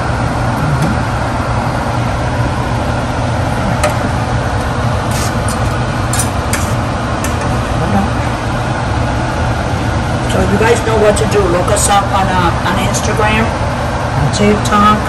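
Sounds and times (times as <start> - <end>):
motor humming: 0.0 - 14.9.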